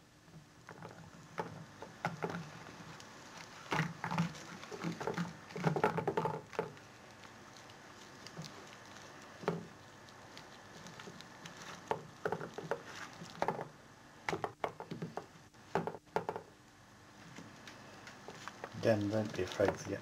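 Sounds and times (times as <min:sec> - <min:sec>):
hands mixing batter: 0:00.7 - 0:16.4, 0:17.4 - 0:20.0.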